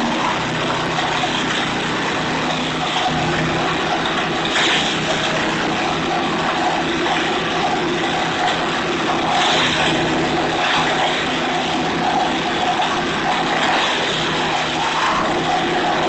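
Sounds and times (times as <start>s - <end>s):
wood chipper shredding branches: 0.0s - 16.0s.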